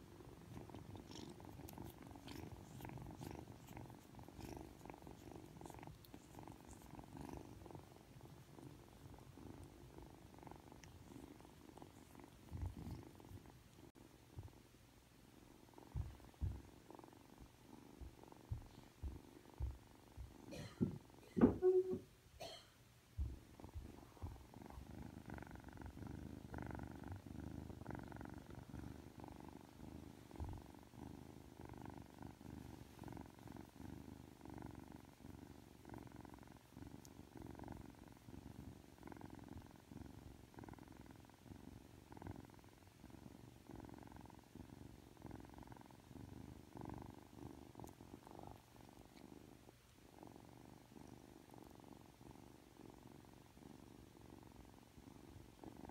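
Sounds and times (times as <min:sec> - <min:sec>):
kitten purring: 0:00.0 - 0:22.2, 0:23.1 - 0:55.9.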